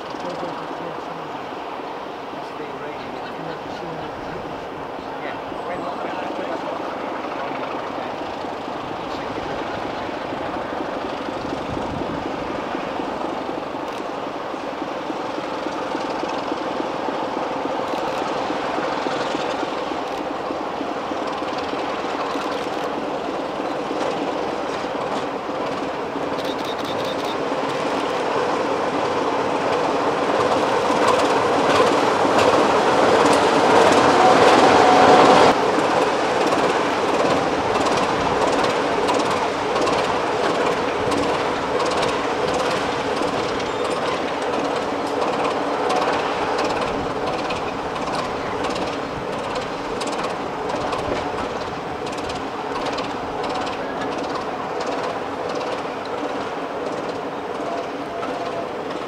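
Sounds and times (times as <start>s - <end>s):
diesel locomotive engine running: 0.0s - 59.0s
train wheels clattering over rails: 0.0s - 59.0s.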